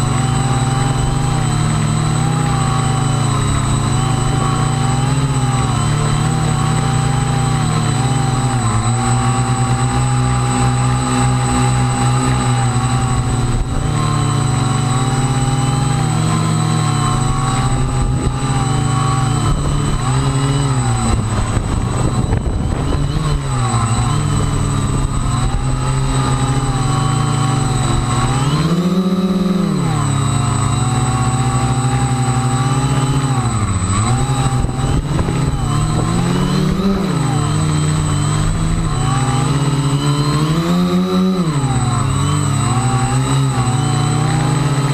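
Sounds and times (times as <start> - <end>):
model aircraft motors buzzing: 0.0 - 44.9.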